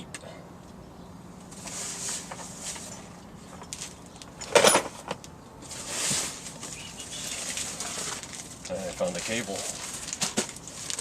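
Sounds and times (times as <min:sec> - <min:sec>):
scraping rustle: 0:01.5 - 0:11.0.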